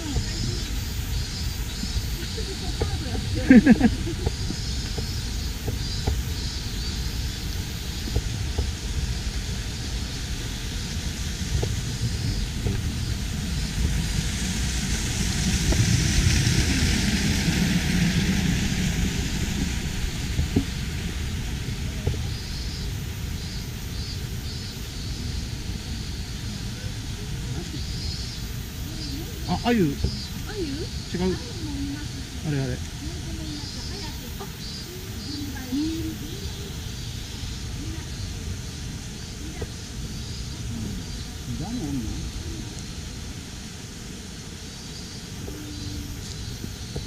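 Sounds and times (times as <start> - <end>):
mountain stream rushing: 0.0 - 47.0.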